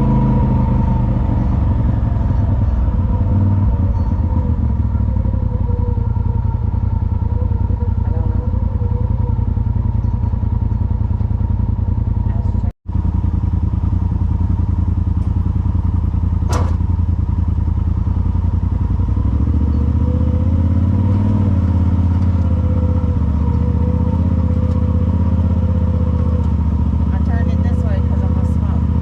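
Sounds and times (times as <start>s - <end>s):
off-road vehicle engine running: 0.0s - 29.0s.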